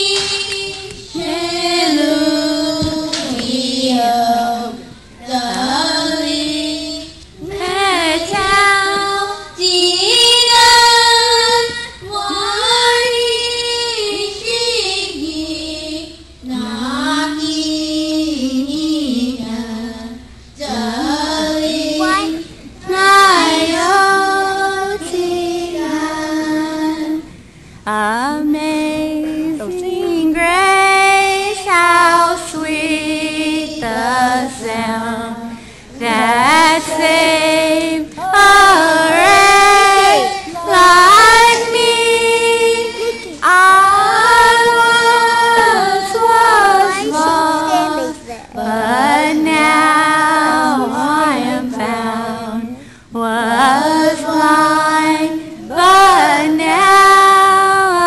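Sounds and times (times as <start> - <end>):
children singing a hymn: 0.0 - 58.0.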